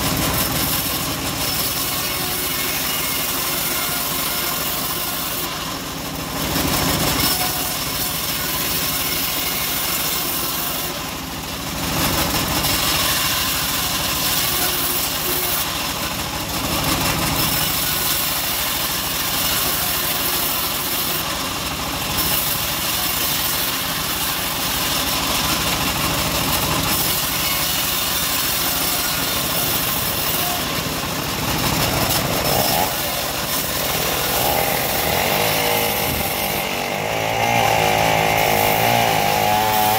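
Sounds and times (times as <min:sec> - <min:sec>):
band blade cutting wood: 0:00.0 - 0:11.2, 0:12.0 - 0:16.1, 0:16.8 - 0:39.9
bandsaw motor running: 0:00.0 - 0:39.9.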